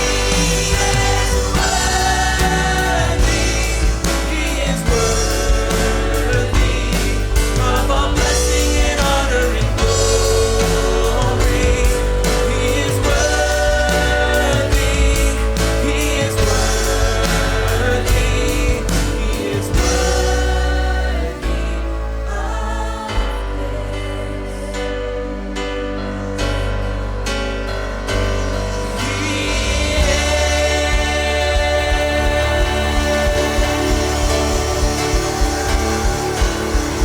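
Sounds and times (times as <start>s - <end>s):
drums: 0.0s - 23.8s, 27.8s - 37.0s
bass: 0.0s - 37.0s
keyboards: 0.0s - 37.0s
singers holding long notes: 0.0s - 37.0s.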